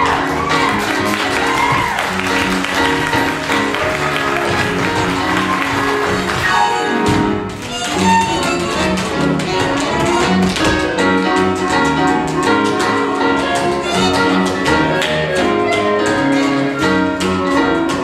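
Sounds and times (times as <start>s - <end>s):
orchestral music with strings: 0.0s - 18.0s
tap shoes clicking: 0.0s - 18.0s.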